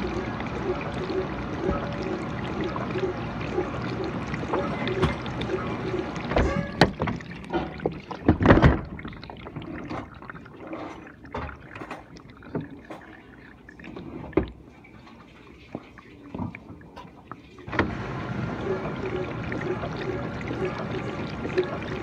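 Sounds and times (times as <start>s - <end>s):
dishwasher water sloshing: 0.0s - 22.0s.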